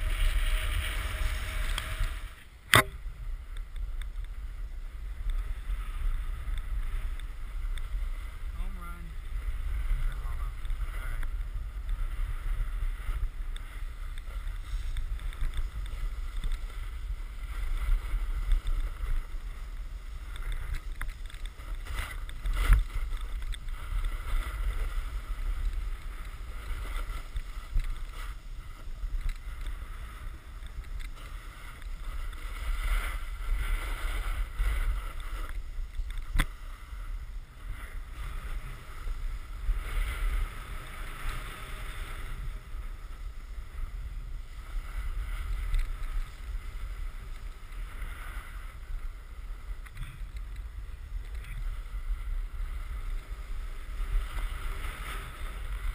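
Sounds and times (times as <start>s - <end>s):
snowboard edge scraping snow: 0.0s - 3.5s, 4.2s - 55.9s
wind rumbling over microphone: 0.0s - 55.9s.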